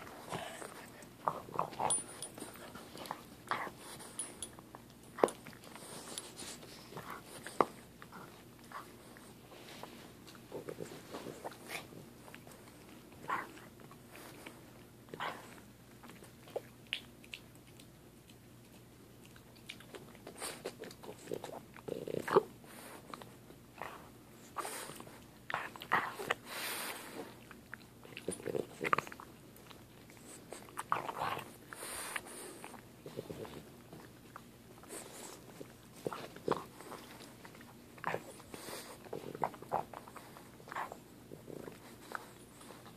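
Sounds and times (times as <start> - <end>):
dog chewing and crunching: 0.0 - 42.9.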